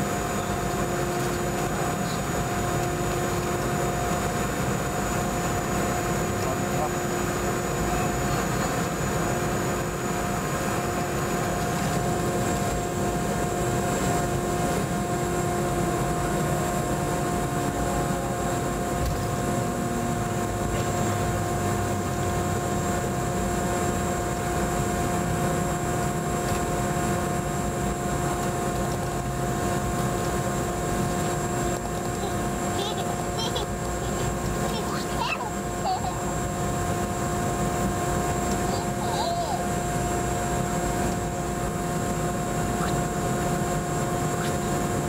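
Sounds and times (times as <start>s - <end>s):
jet engine whine: 0.0s - 45.0s.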